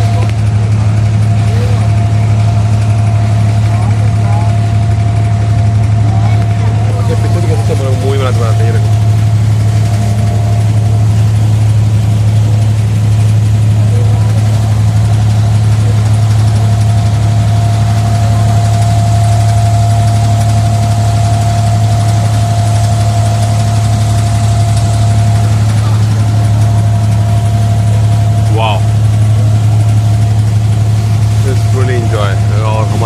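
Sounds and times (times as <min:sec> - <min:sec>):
diesel engine drone with whine: 0:00.0 - 0:33.0.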